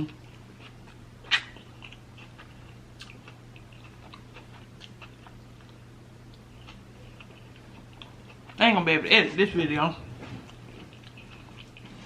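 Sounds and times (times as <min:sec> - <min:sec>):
faint low hum: 0:00.0 - 0:12.0
chewing with wet mouth clicks: 0:00.1 - 0:08.6, 0:10.5 - 0:12.0.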